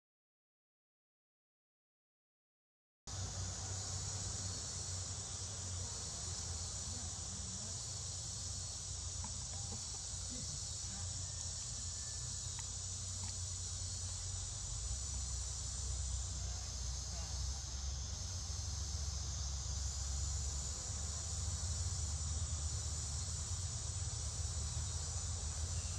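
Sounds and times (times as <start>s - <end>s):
insect chorus drone: 3.1s - 25.9s.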